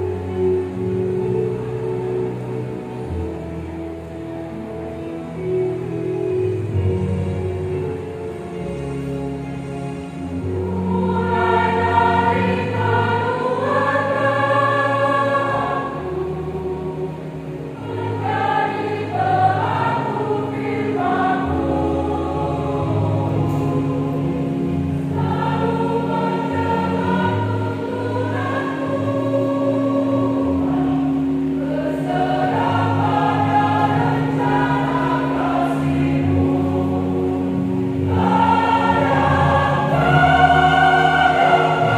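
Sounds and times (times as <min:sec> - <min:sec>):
church choir singing: 0:00.0 - 0:41.9.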